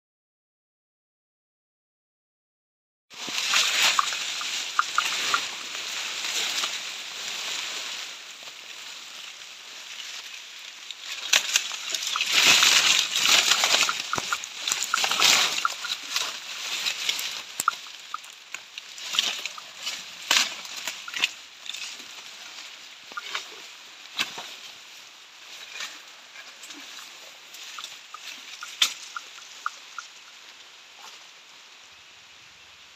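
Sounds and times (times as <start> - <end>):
leaves and bamboo rustling: 3.1 - 32.9.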